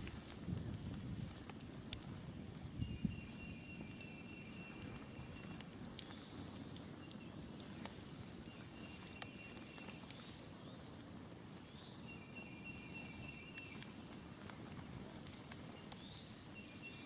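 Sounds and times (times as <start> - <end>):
campfire crackling faintly: 0.0 - 17.0
low outdoor background: 0.0 - 17.0
sharp pops from fire: 0.0 - 17.0.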